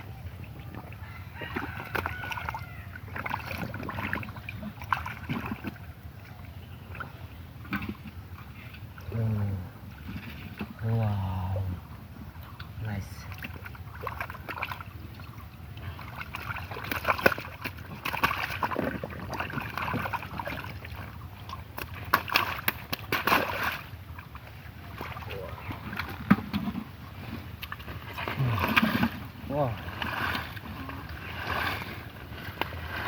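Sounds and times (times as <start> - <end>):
river water splashing and sloshing: 0.0 - 33.0.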